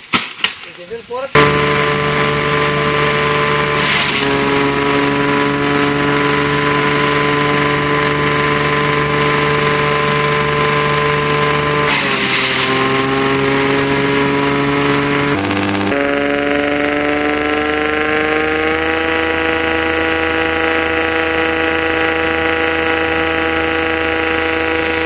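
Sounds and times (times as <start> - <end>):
tractor engine humming: 1.0 - 25.0
stalks going through shredder: 1.4 - 25.0.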